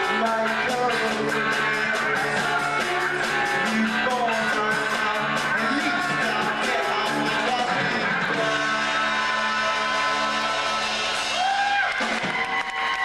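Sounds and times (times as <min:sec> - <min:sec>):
person singing: 0:00.0 - 0:11.6
drumming: 0:00.0 - 0:13.0
live rock band: 0:00.0 - 0:13.0.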